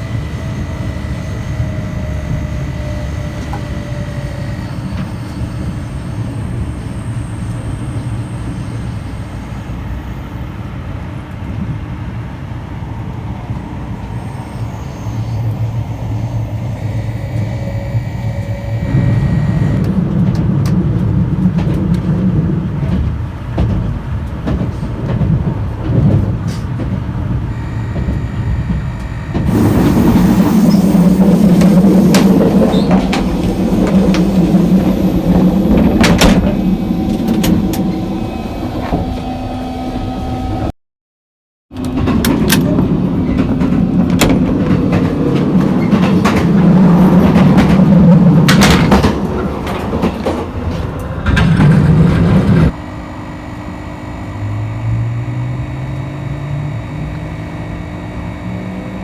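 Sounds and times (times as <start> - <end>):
train wheels rumbling on rail: 0.0 - 40.7, 41.7 - 52.8.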